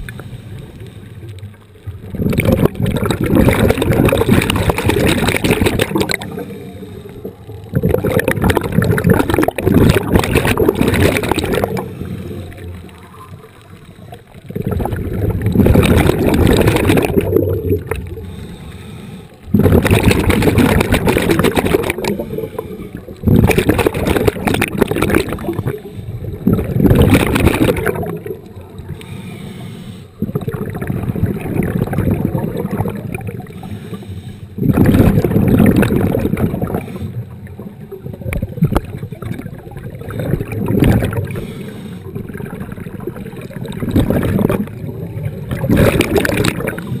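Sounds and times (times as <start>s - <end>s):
underwater water rushing and bubbling: 0.0s - 47.0s.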